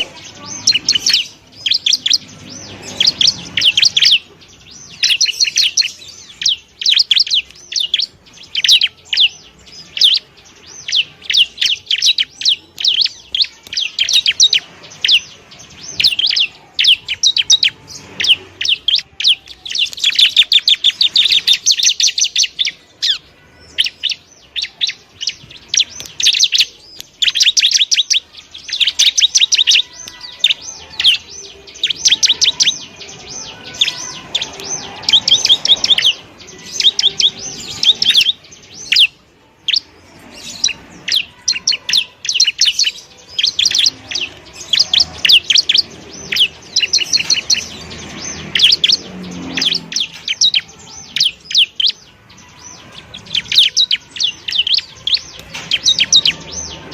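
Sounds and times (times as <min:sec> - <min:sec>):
bird chattering trills: 0:00.0 - 0:56.9.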